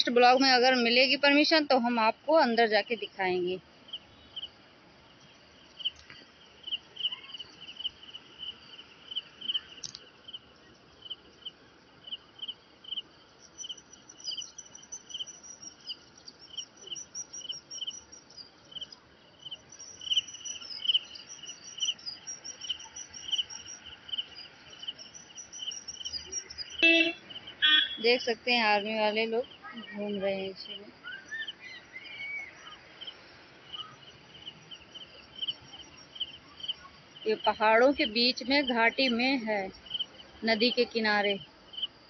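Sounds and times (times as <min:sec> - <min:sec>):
faint high insect chirps: 0:00.0 - 0:42.0
insects chirping: 0:00.0 - 0:42.0.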